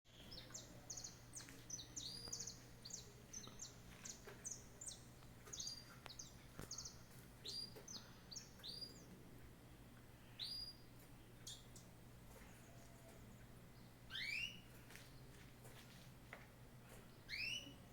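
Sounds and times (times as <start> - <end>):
faint low hum: 0.1 - 17.9
small birds chirping: 0.1 - 17.9.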